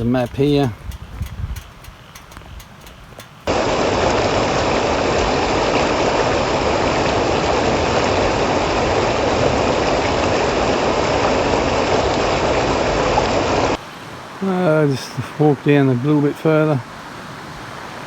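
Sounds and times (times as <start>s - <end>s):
water rushing in creek: 3.5s - 18.0s.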